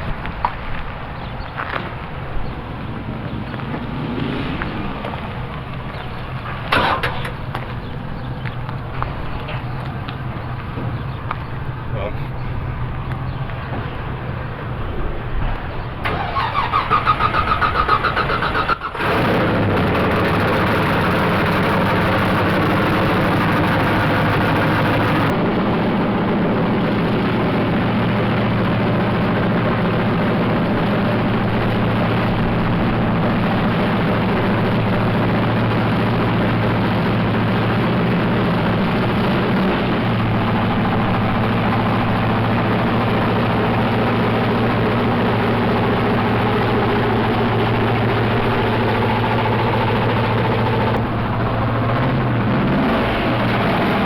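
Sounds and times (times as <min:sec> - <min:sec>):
car engine starting and idling: 0:00.0 - 0:54.0.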